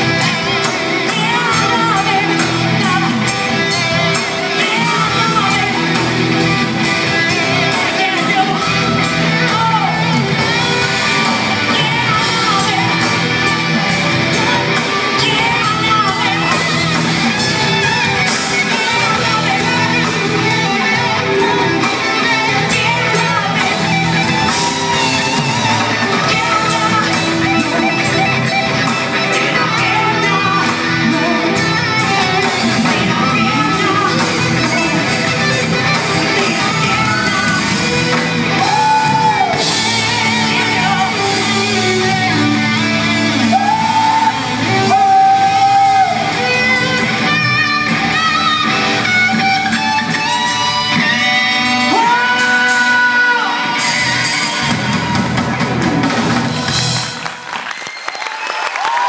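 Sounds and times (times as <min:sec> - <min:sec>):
lead singer holding long notes: 0:00.0 - 0:56.6
bass guitar: 0:00.0 - 0:57.7
drums: 0:00.0 - 0:59.0
electric guitar: 0:00.0 - 0:59.0
keyboards: 0:00.0 - 0:59.0.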